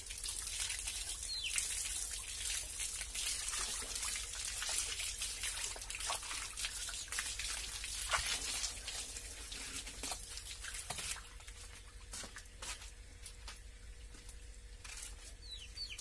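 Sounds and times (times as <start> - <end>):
hose water splashing on pavement: 0.0 - 13.4.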